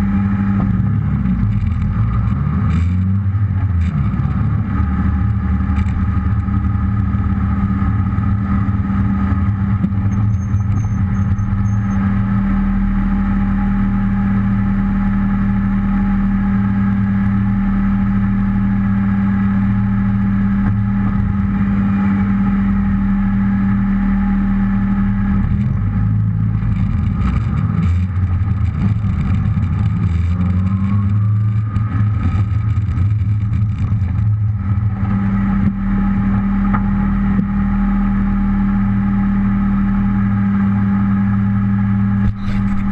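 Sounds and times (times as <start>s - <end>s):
car engine: 0.0s - 42.9s.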